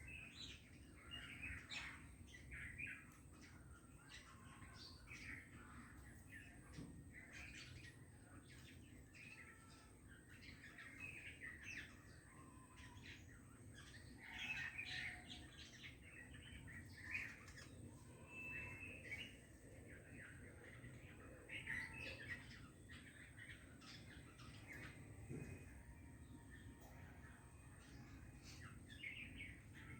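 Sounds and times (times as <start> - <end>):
faint birds chirping: 0.0 - 29.9.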